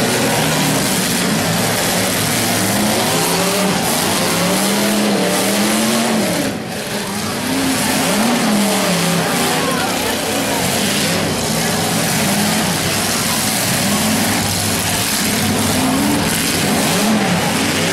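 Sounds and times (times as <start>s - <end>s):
car engines revving hard: 0.0s - 17.9s.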